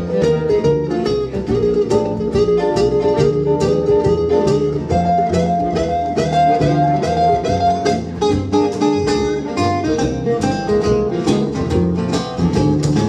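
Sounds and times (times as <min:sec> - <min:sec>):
long-held melody notes: 0:00.0 - 0:12.0
acoustic guitars strumming: 0:00.0 - 0:13.0
upright double bass: 0:00.0 - 0:13.0.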